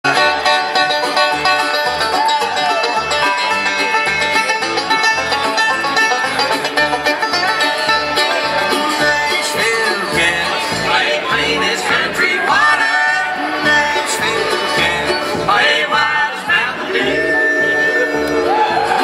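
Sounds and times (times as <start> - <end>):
acoustic guitar: 0.0 - 19.0
banjo playing: 0.0 - 19.0
fiddle: 0.0 - 19.0
mandolin: 0.0 - 19.0
upright bass steady beat: 0.0 - 19.0.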